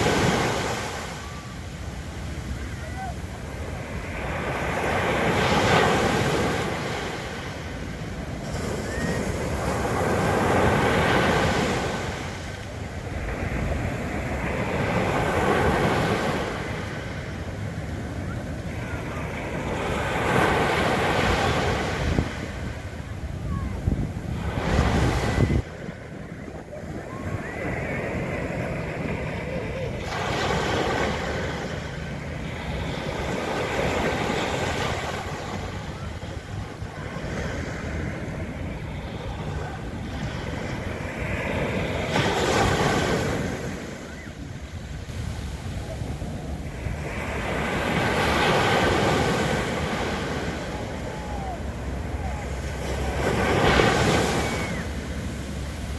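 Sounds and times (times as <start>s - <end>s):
sea waves breaking on beach: 0.0s - 55.9s
wind on microphone: 0.0s - 55.9s.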